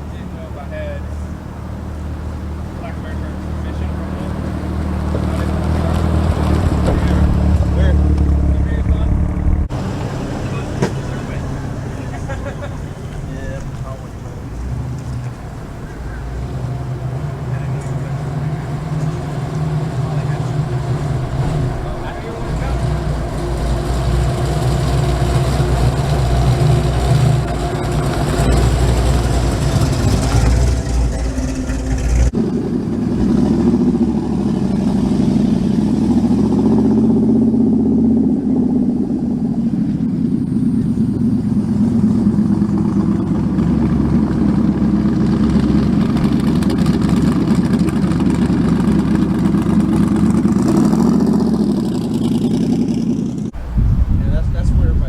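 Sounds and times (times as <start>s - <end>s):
car engine running: 0.0s - 53.8s.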